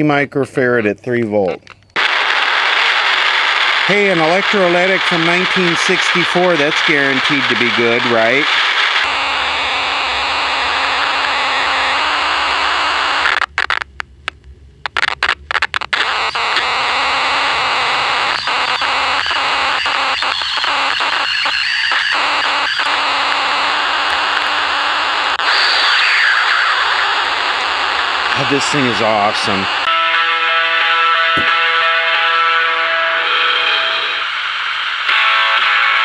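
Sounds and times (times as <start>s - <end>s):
radio crackling clicks: 1.4s - 29.9s, 31.3s - 31.9s
radio static hiss: 1.5s - 14.1s, 14.8s - 29.9s, 31.4s - 36.0s.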